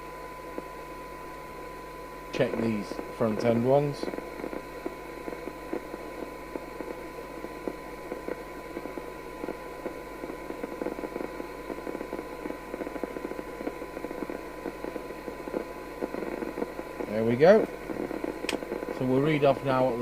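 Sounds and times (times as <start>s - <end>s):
radio hiss and crackle: 0.0s - 20.0s
steady test tone: 0.0s - 20.0s.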